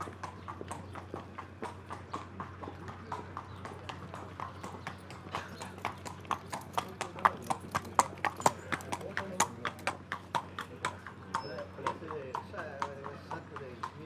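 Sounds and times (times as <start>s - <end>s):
horse hooves clip-clopping: 0.0s - 14.0s.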